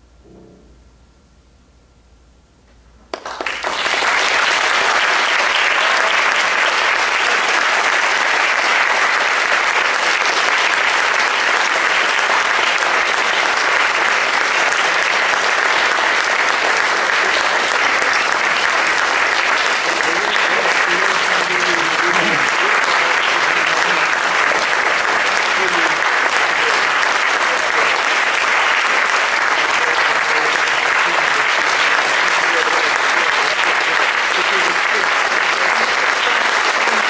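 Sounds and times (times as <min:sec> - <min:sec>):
audience applause: 0:03.1 - 0:37.0.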